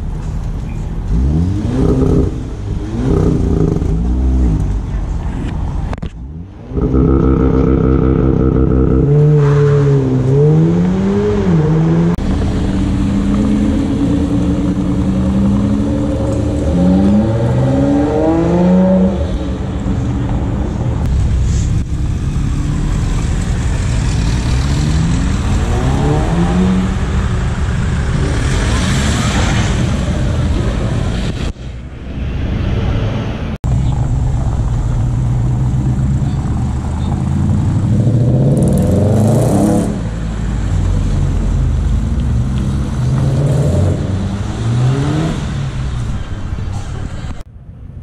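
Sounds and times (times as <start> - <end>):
car engines revving hard: 0.0 - 31.6, 32.6 - 47.5.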